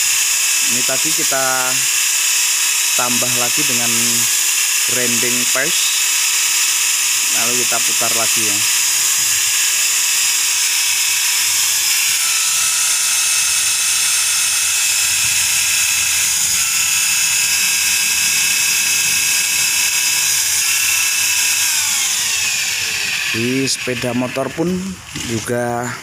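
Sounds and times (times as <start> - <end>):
electric drill whining: 0.0 - 26.0.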